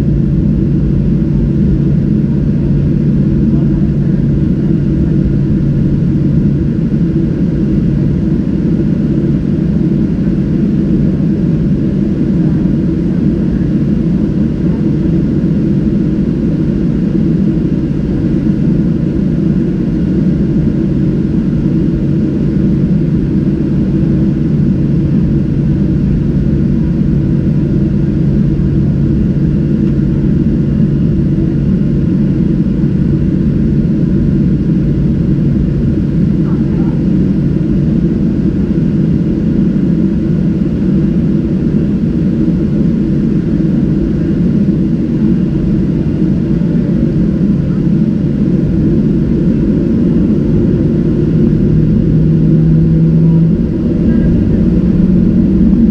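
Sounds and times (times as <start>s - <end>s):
airplane cabin drone: 0.0s - 55.9s.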